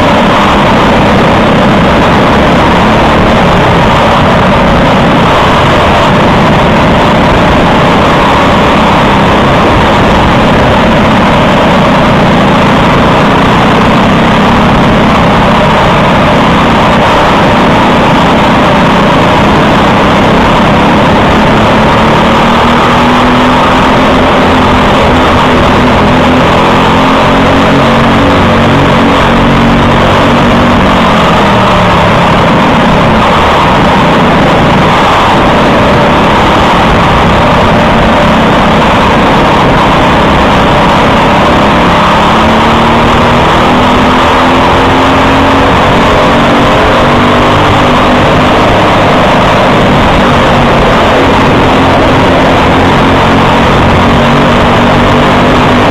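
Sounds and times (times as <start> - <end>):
kart engine revving: 0.0 - 55.9.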